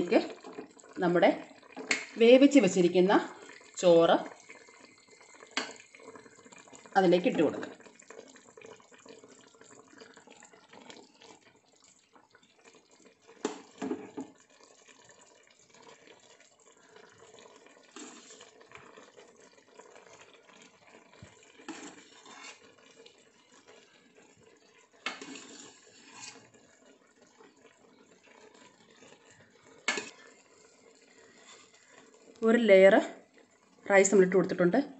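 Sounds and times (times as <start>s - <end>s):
sauce bubbling in a pot: 0.0s - 34.9s.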